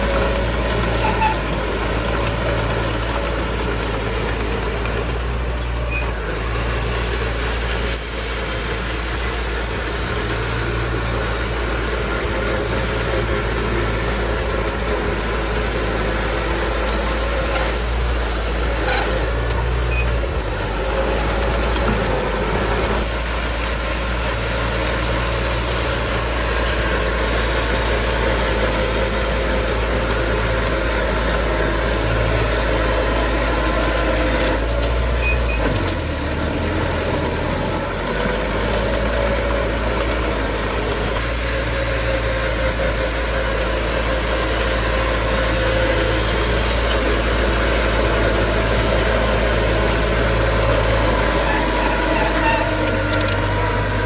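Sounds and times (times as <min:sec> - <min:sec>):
diesel machinery engine rumble: 0:00.0 - 0:54.0.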